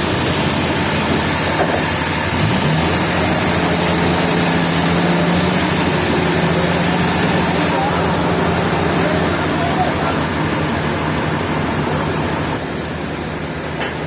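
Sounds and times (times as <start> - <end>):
noisy machinery whir: 0.0 - 14.0
sawmill engine: 0.0 - 14.0.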